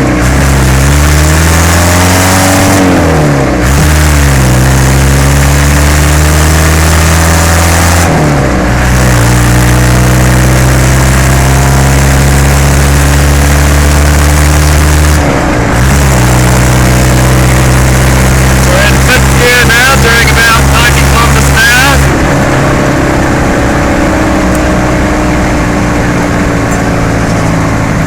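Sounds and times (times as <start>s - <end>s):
diesel engine revving: 0.0s - 28.0s.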